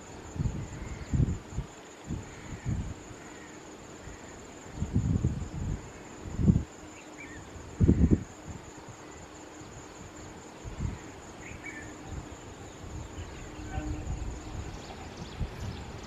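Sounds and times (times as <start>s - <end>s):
insects chirring: 0.0s - 16.0s
wind buffeting microphone: 0.2s - 3.2s, 4.6s - 16.0s.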